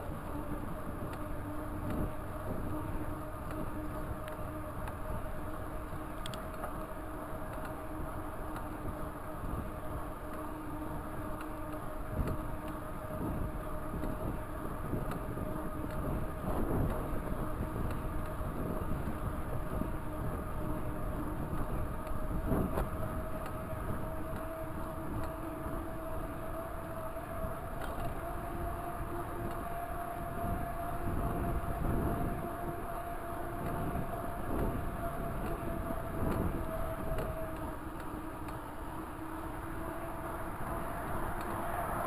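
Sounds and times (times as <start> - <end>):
rising whine: 0.0 - 42.0
road rumble: 0.0 - 42.0
wind: 0.0 - 42.0.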